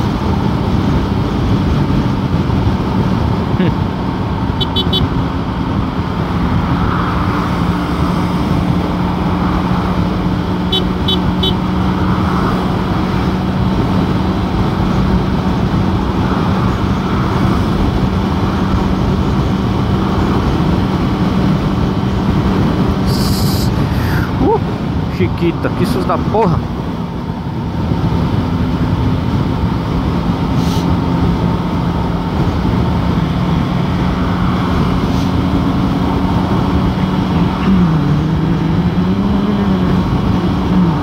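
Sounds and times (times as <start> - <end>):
heavy wind rush: 0.0 - 41.0
motorcycle engine cruising: 0.0 - 41.0.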